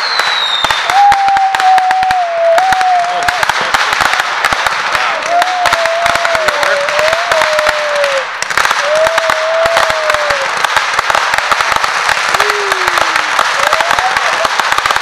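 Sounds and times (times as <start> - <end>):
fireworks crackling: 0.0 - 15.0
fireworks hissing: 0.0 - 15.0.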